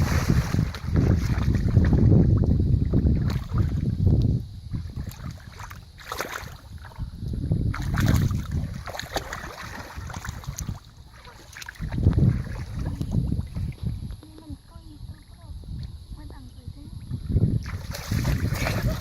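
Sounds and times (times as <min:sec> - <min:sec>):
water sloshing and splashing: 0:00.0 - 0:15.6, 0:17.6 - 0:19.0.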